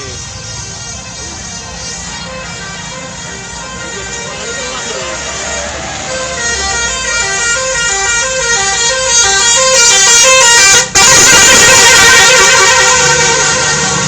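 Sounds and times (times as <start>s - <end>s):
multi-tone bus air horn melody: 0.0s - 14.0s.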